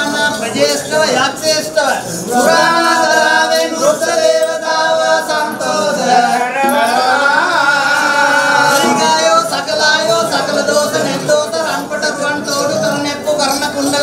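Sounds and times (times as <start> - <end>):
men chanting together: 0.0 - 12.8.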